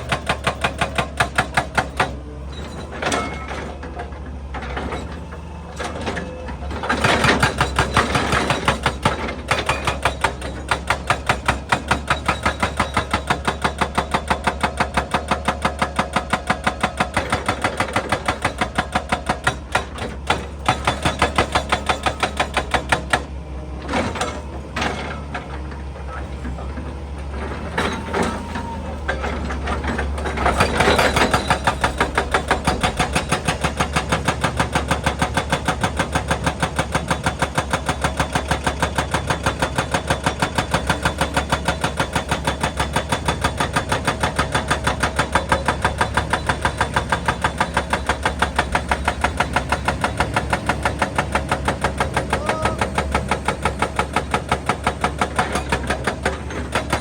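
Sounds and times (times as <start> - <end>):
excavator engine running: 0.0 - 57.0
hydraulic breaker hammering rock: 0.0 - 57.0.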